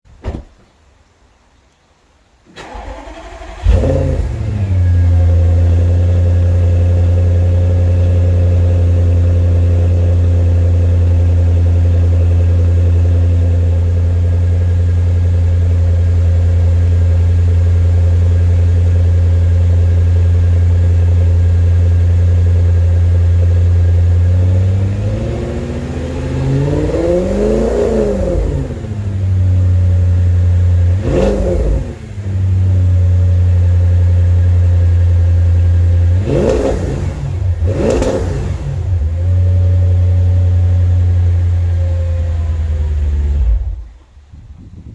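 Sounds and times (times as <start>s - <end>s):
car engine revving and idling: 2.6s - 44.3s.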